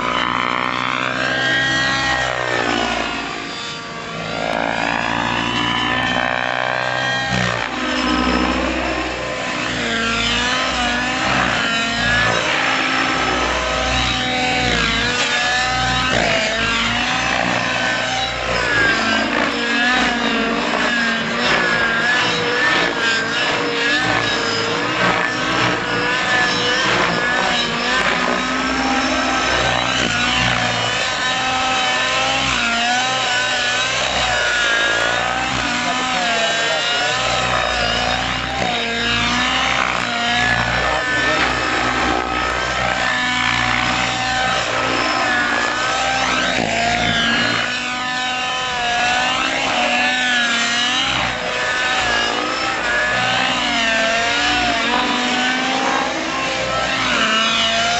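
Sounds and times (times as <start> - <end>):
model plane engine in flight: 0.0 - 57.9.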